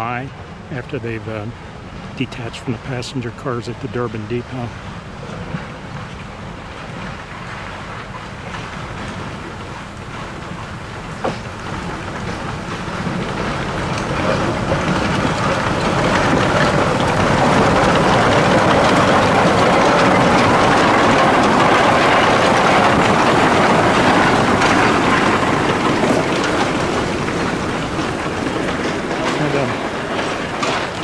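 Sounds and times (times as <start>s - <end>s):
steam locomotive running: 0.0s - 31.0s.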